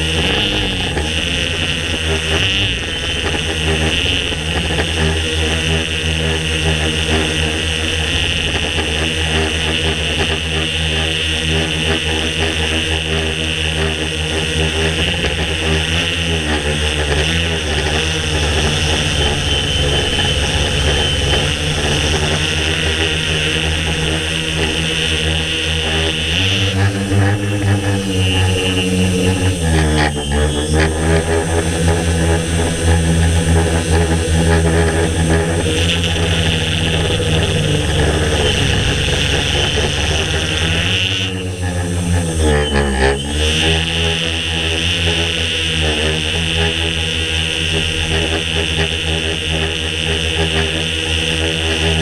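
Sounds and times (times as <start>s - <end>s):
faint high whine: 0.0s - 48.4s
drone motors humming: 0.0s - 52.0s.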